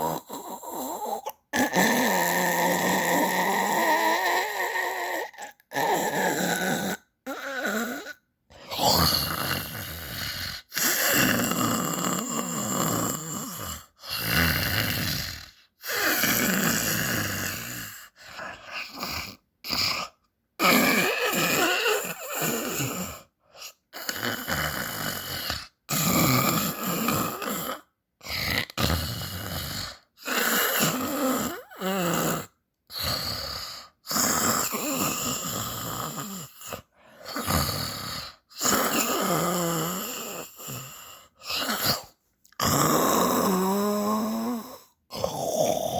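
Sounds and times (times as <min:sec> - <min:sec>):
person snoring: 0:00.0 - 0:45.9.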